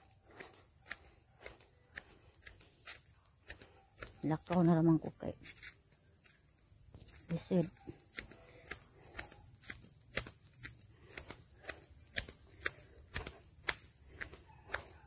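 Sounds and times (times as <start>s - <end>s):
footsteps on dirt track: 0.0s - 15.0s.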